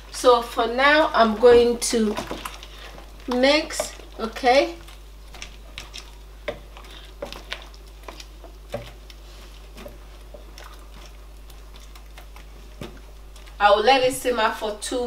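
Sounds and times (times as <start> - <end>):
steady low hum: 0.0 - 15.0
wooden spoon stirring a pot: 0.0 - 15.0.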